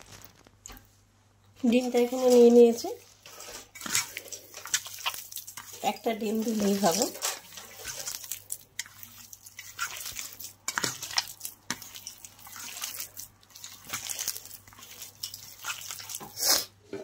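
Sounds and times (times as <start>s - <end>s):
hand squishing soaked bread: 1.6s - 16.7s.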